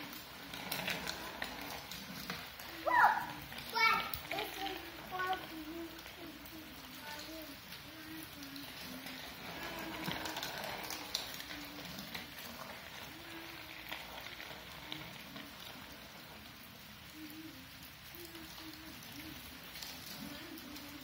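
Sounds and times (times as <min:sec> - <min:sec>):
rain on concrete: 0:00.0 - 0:21.0.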